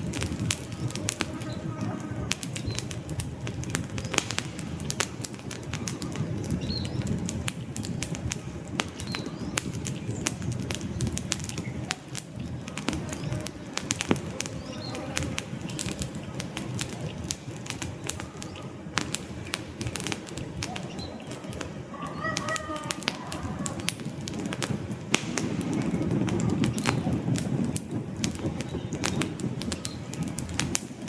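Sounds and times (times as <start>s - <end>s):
logs crackling and popping: 0.0s - 31.0s
low rumble of flames: 0.0s - 31.0s.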